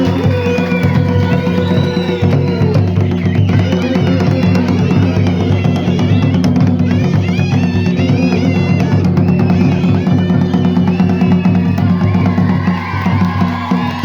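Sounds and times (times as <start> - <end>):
high winding melody: 0.0 - 12.1
busy steady drumming: 0.0 - 14.0.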